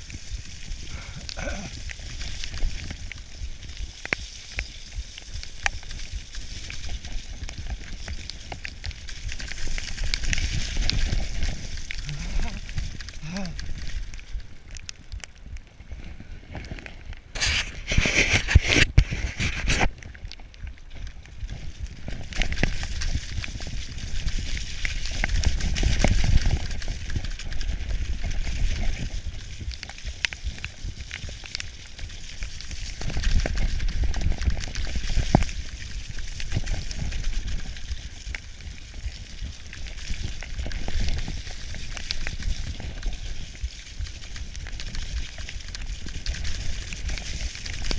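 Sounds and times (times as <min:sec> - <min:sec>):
wind rumble on microphone: 0:00.0 - 0:47.9.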